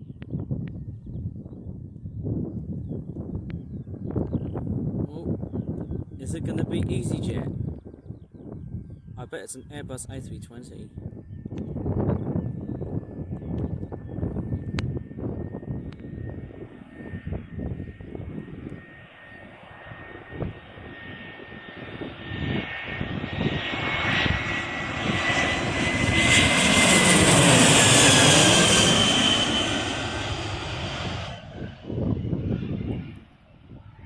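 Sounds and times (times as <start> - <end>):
jet airliner passing overhead: 1.3 - 34.0.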